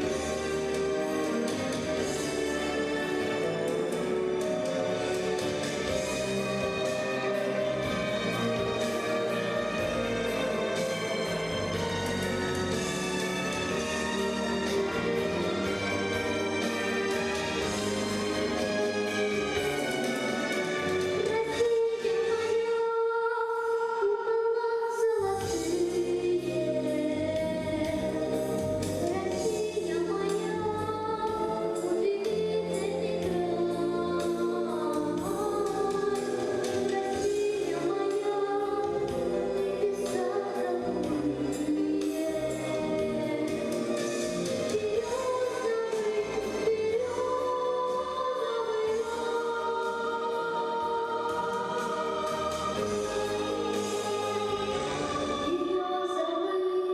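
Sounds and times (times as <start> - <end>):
musical accompaniment with bass: 0.0 - 22.9, 25.2 - 56.9
person singing: 0.0 - 56.9.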